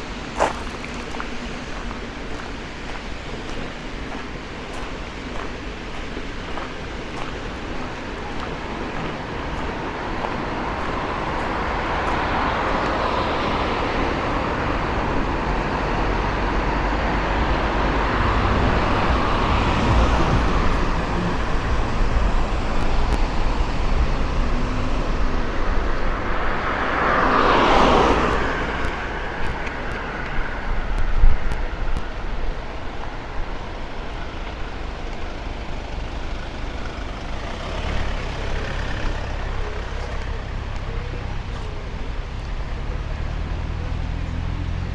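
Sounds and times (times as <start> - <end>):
cars driving past: 0.0 - 44.9.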